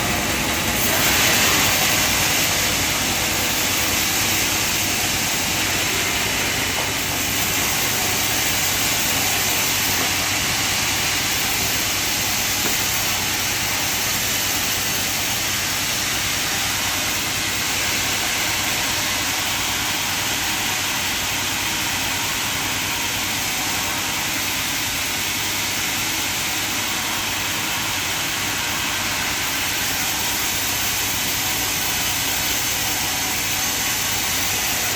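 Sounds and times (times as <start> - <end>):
band sawmill hissing: 0.0 - 34.9.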